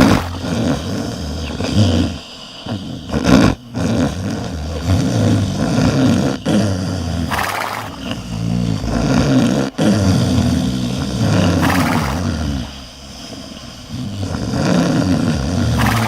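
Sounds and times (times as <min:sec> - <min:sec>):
loud rasping snoring: 0:00.0 - 0:16.0.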